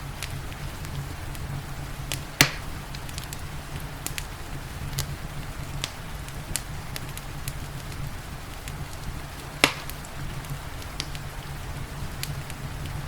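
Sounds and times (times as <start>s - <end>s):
rain hissing: 0.0s - 13.0s
wood fire crackling: 0.0s - 13.0s.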